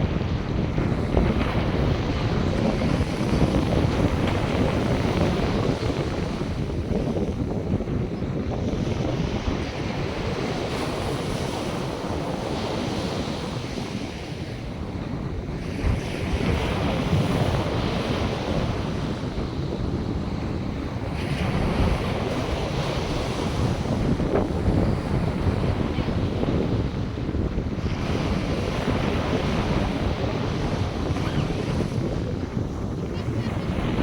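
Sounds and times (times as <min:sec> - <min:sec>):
surf washing onto beach: 0:00.0 - 0:34.0
wind rumble on microphone: 0:00.0 - 0:34.0.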